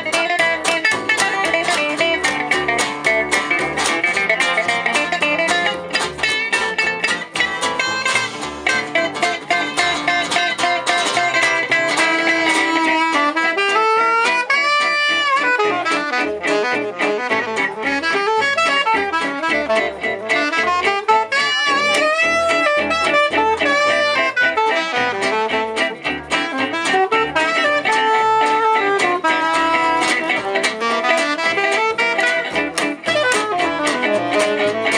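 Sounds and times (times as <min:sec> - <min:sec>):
rhythm guitar strumming: 0:00.0 - 0:34.9
sliding melodic lead instrument: 0:00.0 - 0:34.9
walking bass: 0:00.0 - 0:34.9.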